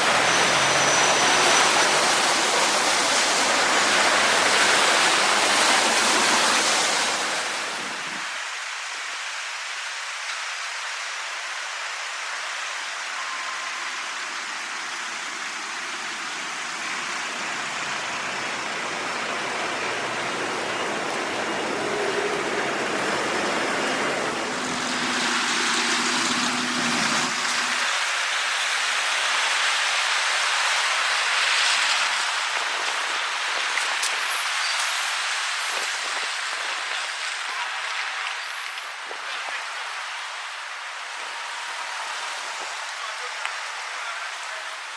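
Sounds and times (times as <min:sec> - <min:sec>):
floodwater rushing: 0:00.0 - 0:44.9.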